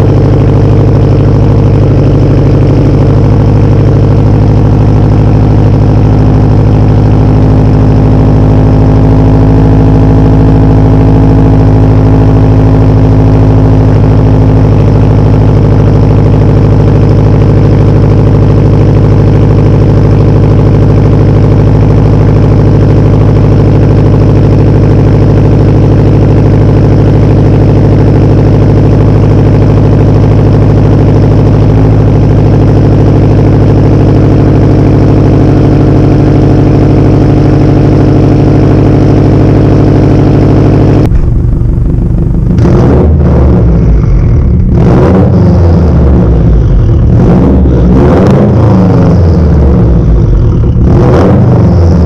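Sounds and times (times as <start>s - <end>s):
loud car engine idling: 0.0s - 52.0s.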